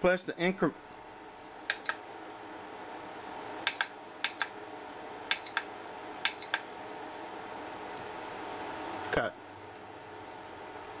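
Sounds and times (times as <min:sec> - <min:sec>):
charger fan hum: 0:00.0 - 0:11.0.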